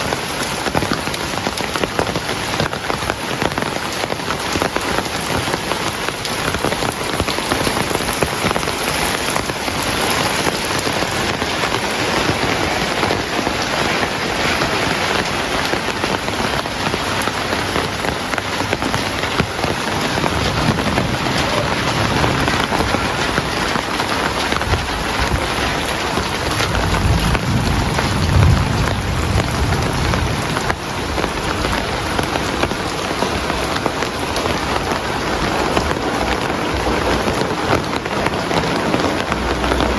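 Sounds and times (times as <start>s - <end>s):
heavy rain falling: 0.0s - 39.9s
thunder rumbling: 0.1s - 39.9s.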